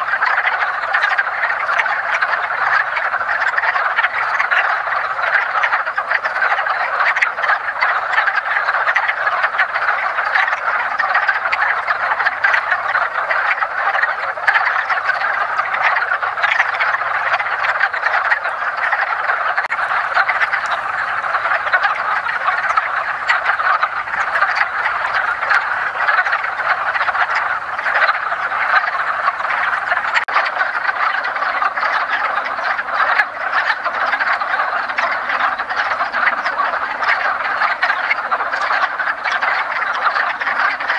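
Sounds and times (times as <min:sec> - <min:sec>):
chorus of frogs calling: 0:00.0 - 0:40.9.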